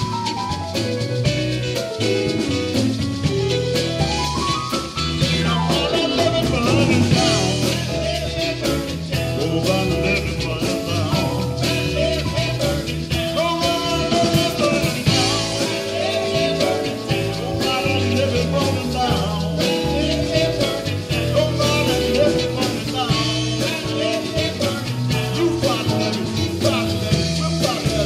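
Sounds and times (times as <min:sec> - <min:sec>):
live rock band playing: 0:00.0 - 0:28.0
man singing: 0:04.9 - 0:28.0.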